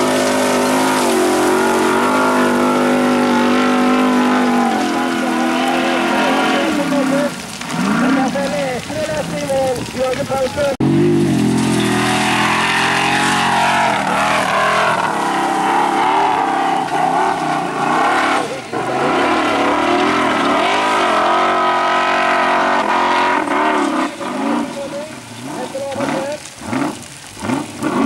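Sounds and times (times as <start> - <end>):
buggy engine revving hard: 0.0 - 8.5, 10.8 - 28.0.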